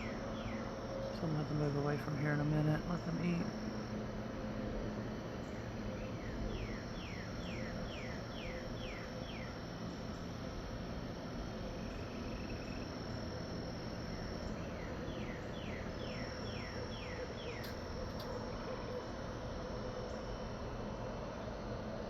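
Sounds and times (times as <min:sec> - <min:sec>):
insects trilling: 0:00.0 - 0:22.0
outdoor background hiss: 0:00.0 - 0:22.0.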